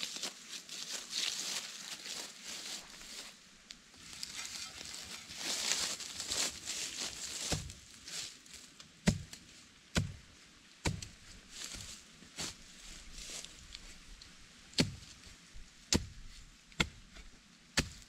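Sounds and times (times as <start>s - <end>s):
footsteps in dry grass and leaves: 0.0s - 16.6s.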